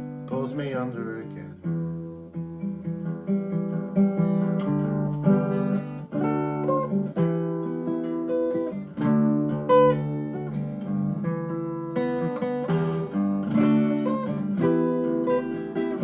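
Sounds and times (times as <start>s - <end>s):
acoustic guitar plucked riff: 0.0s - 16.0s.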